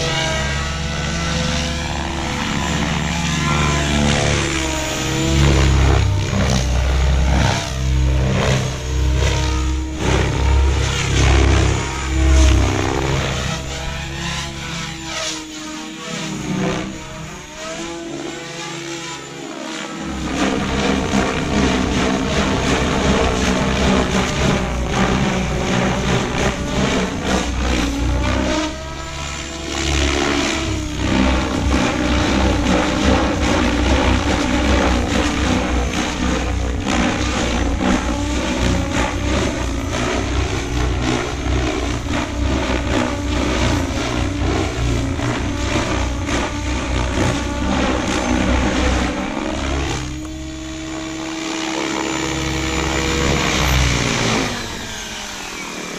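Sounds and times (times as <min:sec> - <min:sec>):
electric motor whine: 0:00.0 - 0:55.9
helicopter rotor whir: 0:00.0 - 0:55.9.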